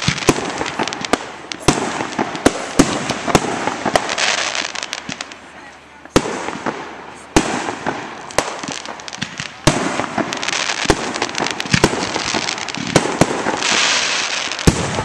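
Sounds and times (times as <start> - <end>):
crackle of bursting fireworks: 0.0 - 15.0.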